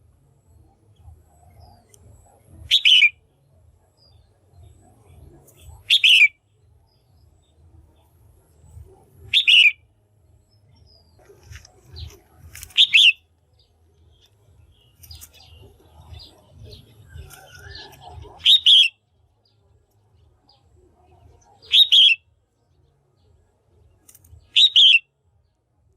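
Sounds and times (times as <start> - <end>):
faint bird chirps: 0.0 - 25.2.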